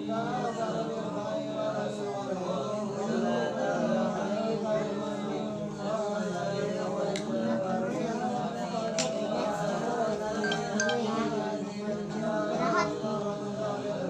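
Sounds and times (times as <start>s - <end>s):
chant-like singing with music: 0.0s - 14.0s.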